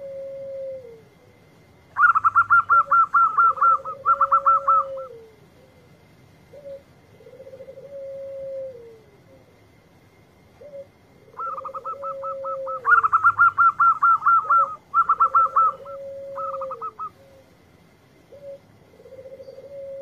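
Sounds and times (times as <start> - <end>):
dove cooing: 0.0 - 9.8, 10.4 - 20.0.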